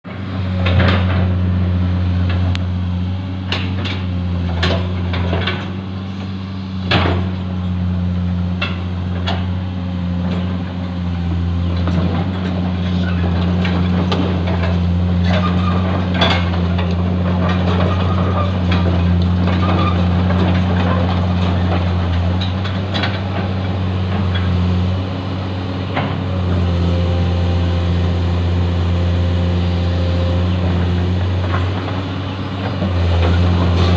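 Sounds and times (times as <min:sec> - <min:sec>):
heavy diesel machinery running: 0:00.0 - 0:33.9.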